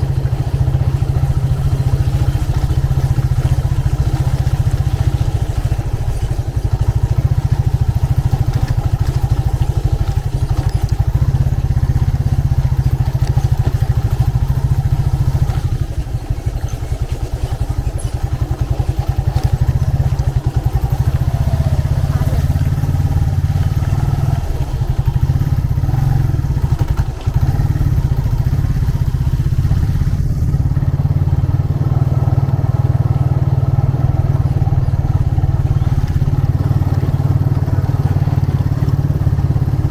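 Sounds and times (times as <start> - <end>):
motorcycle engine running: 0.0 - 39.9
road and traffic noise: 0.0 - 39.9.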